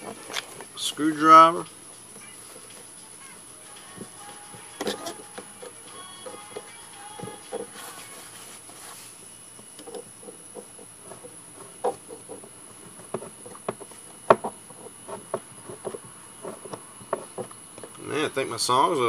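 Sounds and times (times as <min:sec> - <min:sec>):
steady high whine: 0:00.0 - 0:19.0.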